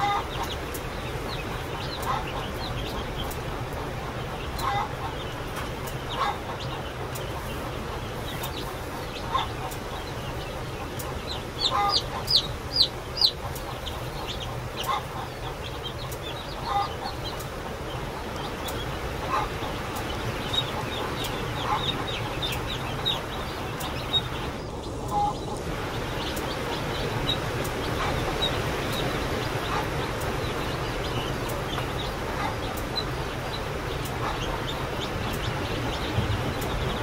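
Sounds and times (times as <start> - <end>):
chicks peeping: 0.0 - 37.0
steady low hum: 0.0 - 37.0.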